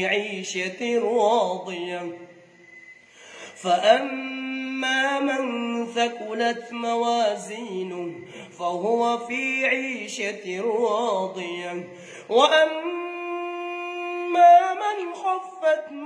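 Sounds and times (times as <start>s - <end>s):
man reciting melodically: 0.0s - 2.4s, 3.2s - 16.0s.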